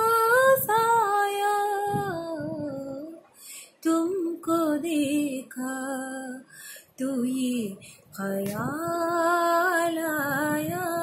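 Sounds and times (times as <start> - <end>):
woman singing: 0.0 - 3.2, 3.8 - 11.0.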